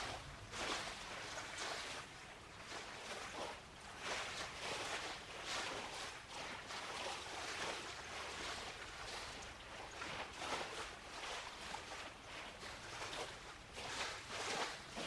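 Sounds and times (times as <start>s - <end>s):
small waves washing ashore: 0.0s - 15.0s.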